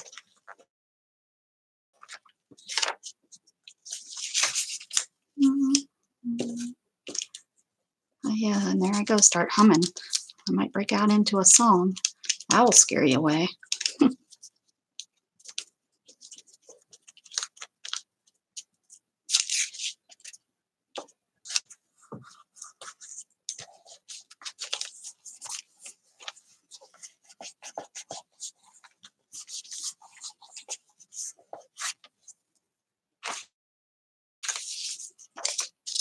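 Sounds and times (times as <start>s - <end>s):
paper rustling and scratching: 0.0s - 0.6s, 2.0s - 5.2s, 6.4s - 7.6s, 8.8s - 20.4s, 21.0s - 32.4s, 33.2s - 33.5s, 34.4s - 36.0s.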